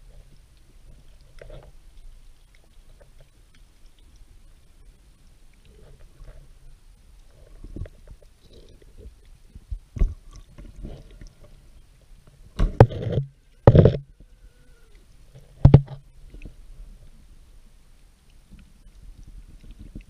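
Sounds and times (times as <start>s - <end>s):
underwater low rumble: 0.0s - 20.0s.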